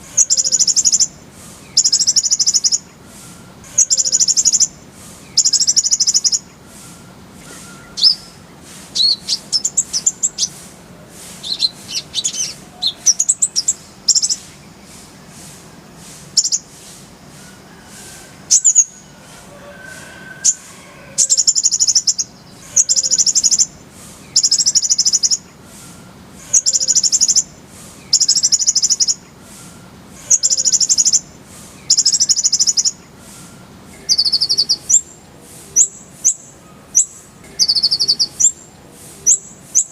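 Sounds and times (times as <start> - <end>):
bird singing with buzzy trills: 0.0 - 10.7, 11.3 - 19.4, 20.3 - 39.9.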